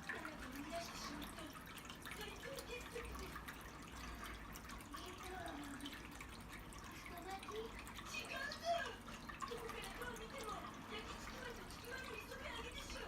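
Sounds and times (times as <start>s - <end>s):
water dripping: 0.0s - 13.0s
water fountain trickling: 0.0s - 13.0s.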